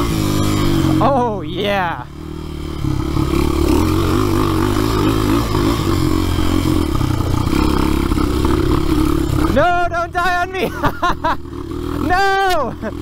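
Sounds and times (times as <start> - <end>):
dirt bike engine running hard: 0.0 - 13.0.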